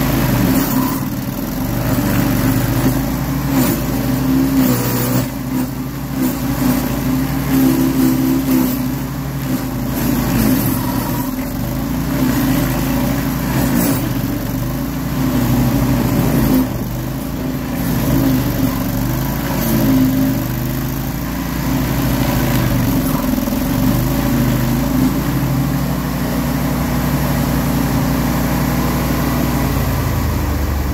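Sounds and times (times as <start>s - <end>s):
cutter wheel grinding roots: 0.0s - 30.9s
stump grinder engine: 0.0s - 30.9s.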